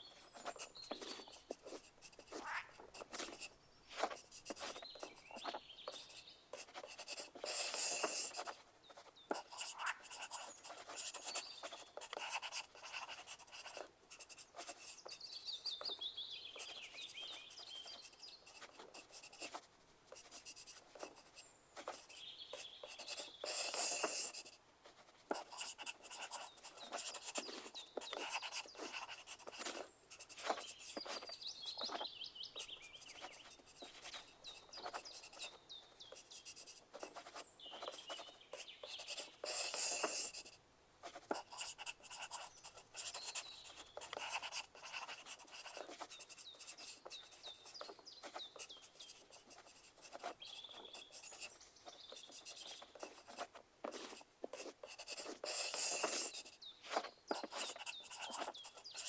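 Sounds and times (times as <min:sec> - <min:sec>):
pencil scratching on paper: 0:00.0 - 0:16.0, 0:16.6 - 0:59.0.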